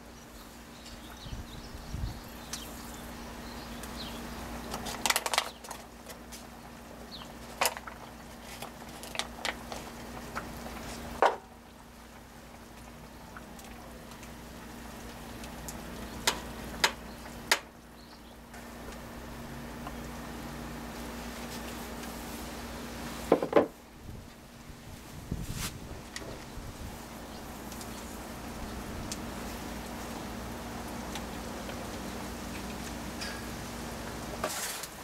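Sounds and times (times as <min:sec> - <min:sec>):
pot simmering: 0:00.0 - 0:25.1, 0:25.8 - 0:35.0.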